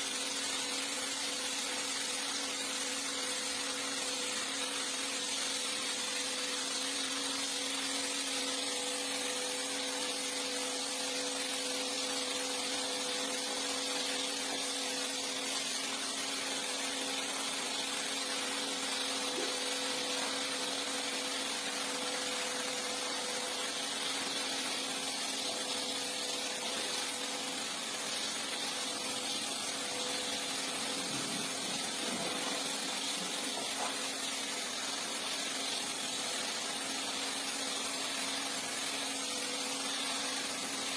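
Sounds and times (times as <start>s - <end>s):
low two-tone motor hum: 0.0s - 40.9s
rug cleaning machine hissing: 0.0s - 40.9s.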